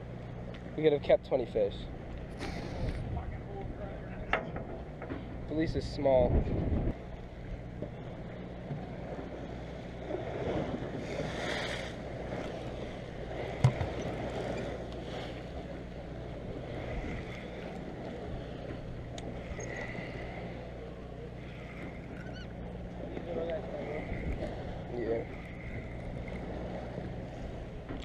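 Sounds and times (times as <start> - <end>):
boat engine droning: 0.0 - 28.0
water noise: 0.0 - 28.0
wind: 0.0 - 28.0.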